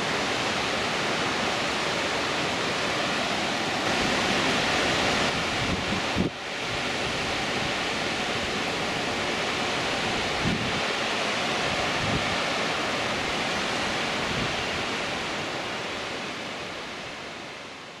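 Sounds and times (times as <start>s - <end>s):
water rushing down rocky cascades: 0.0s - 18.0s.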